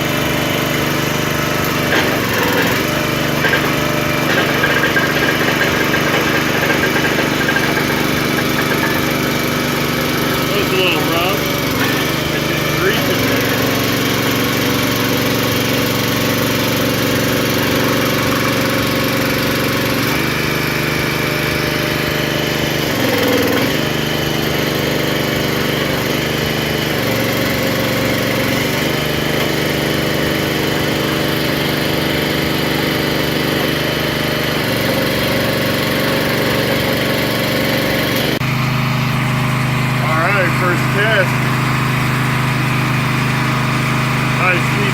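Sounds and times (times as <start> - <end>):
log splitter engine running: 0.0 - 44.9.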